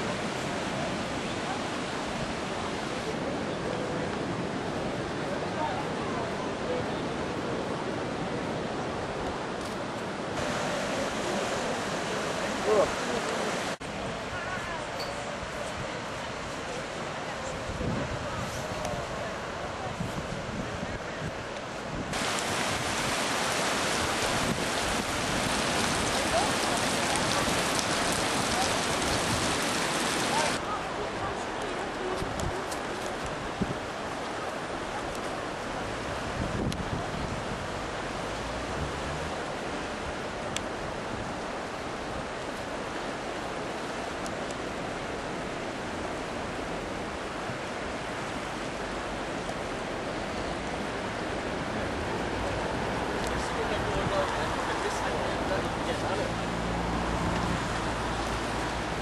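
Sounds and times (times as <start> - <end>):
river rapids roaring: 0.0 - 59.0.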